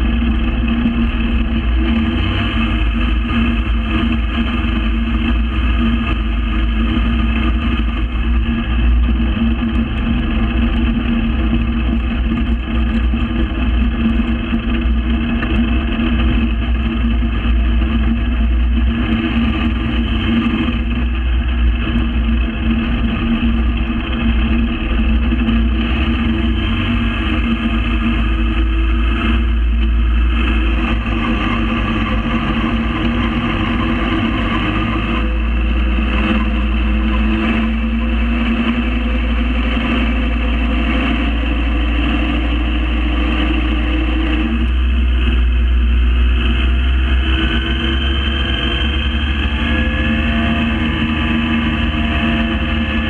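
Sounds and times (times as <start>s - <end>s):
gyrocopter engine idling: 0.0s - 53.0s.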